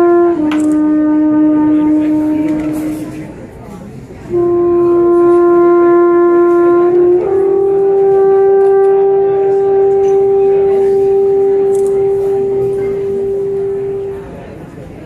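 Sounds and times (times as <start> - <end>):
alphorn holding long notes: 0.0 - 14.9.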